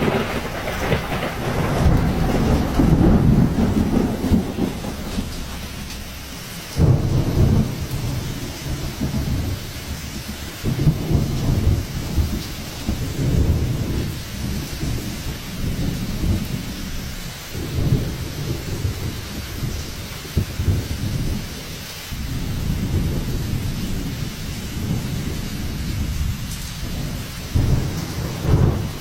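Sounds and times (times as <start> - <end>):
heavy rain: 0.0 - 29.0
loud low rumbling surges: 0.0 - 29.0
wind: 0.0 - 29.0.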